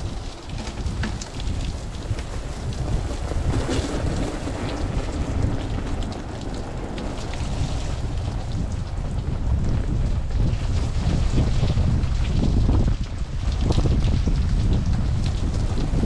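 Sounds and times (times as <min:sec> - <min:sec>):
water spattering: 0:00.0 - 0:16.0
wind buffeting microphone: 0:00.0 - 0:16.0.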